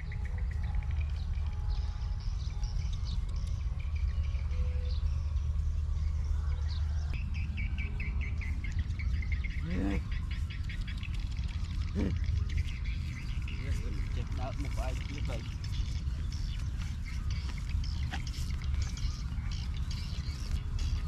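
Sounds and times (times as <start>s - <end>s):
fast pulsing bird trill: 0.0s - 21.0s
small birds chirping: 0.0s - 21.0s
steady low rumble: 0.0s - 21.0s.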